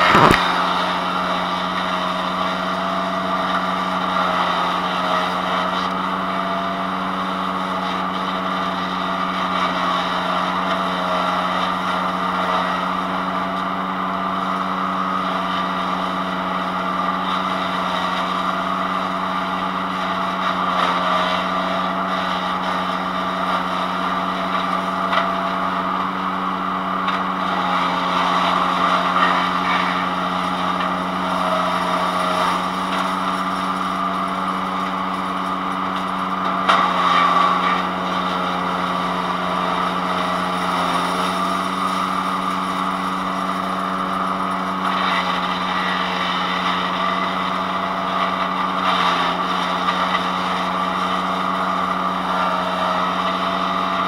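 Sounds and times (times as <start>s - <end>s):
branches crackling in chipper: 0.0s - 54.0s
wood chipper engine running: 0.0s - 54.0s.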